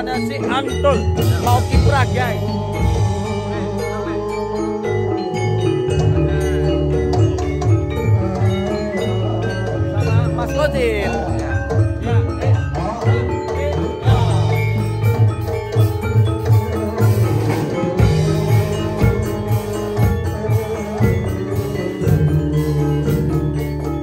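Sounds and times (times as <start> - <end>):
mallet instruments ringing melody: 0.0 - 24.0
steady driving drum beat: 0.0 - 24.0.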